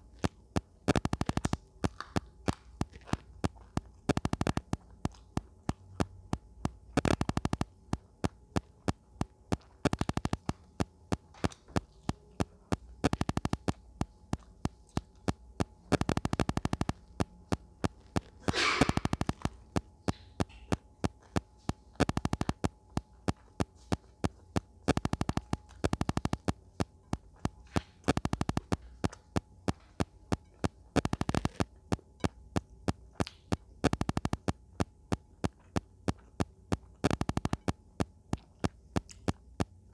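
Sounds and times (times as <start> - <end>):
wet mouth clicks and chewing: 0.0 - 39.9.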